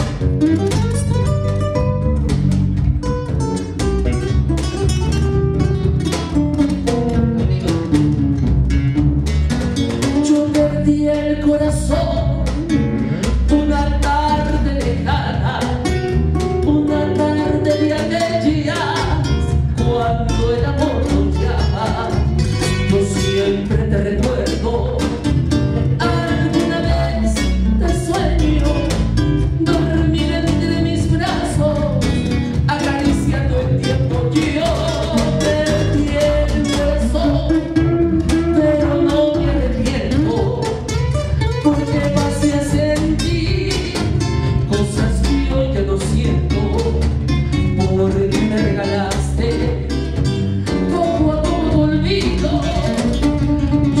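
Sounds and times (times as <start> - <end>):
acoustic guitar: 0.0 - 54.0
cajon drum: 0.0 - 54.0
electric bass: 0.0 - 54.0.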